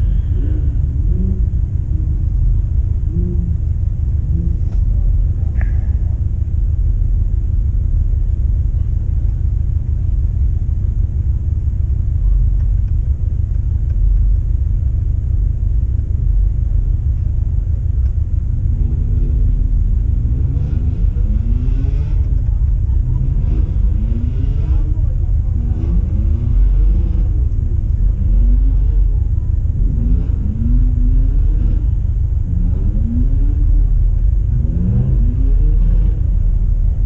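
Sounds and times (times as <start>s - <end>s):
car driving rumble: 0.0s - 37.0s
car engine accelerating: 0.0s - 37.0s
road and wind noise: 0.0s - 37.0s.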